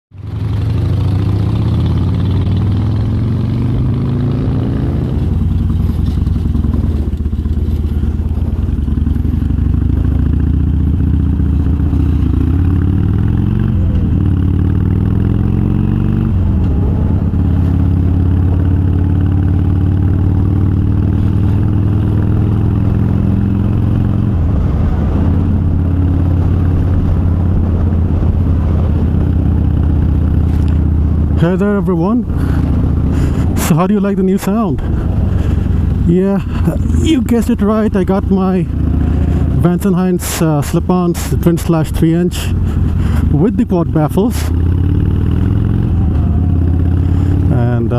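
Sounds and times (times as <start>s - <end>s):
motorcycle exhaust revving: 0.1s - 47.9s.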